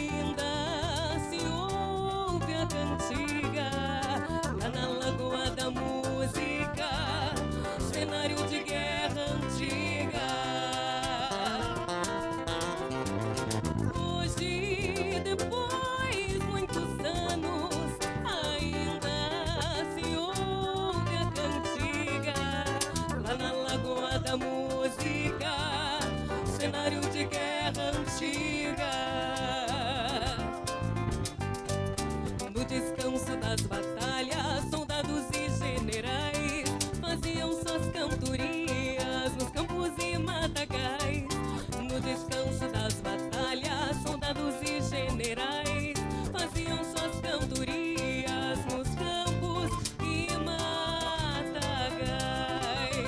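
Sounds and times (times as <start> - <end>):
woman singing with vibrato: 0.0 - 12.5, 13.8 - 30.7, 32.5 - 53.0
piano accordion: 0.0 - 34.9, 35.5 - 53.0
acoustic guitars: 0.0 - 53.0.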